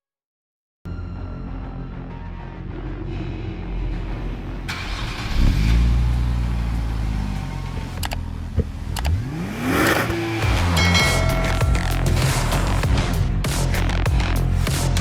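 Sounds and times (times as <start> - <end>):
sports car engine revving: 2.9 - 15.0.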